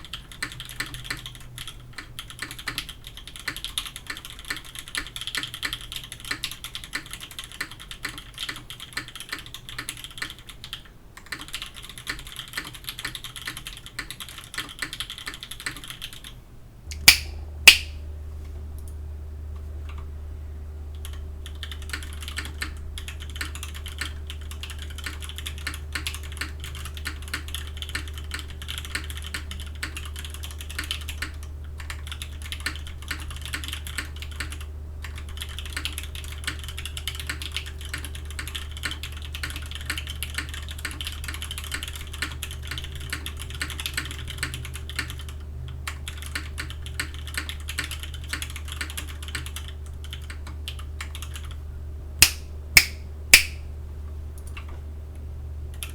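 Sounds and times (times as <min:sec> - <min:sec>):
typing on mechanical keyboard: 0:00.0 - 0:16.4, 0:21.0 - 0:51.6.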